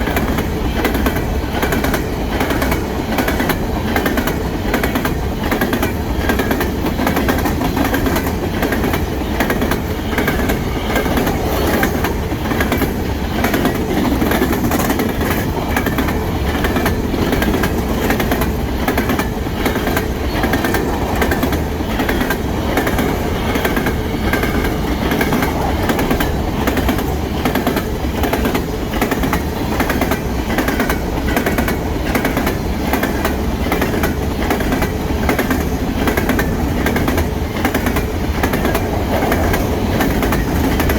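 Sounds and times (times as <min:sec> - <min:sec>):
train wheels clattering over rails: 0:00.0 - 0:40.9.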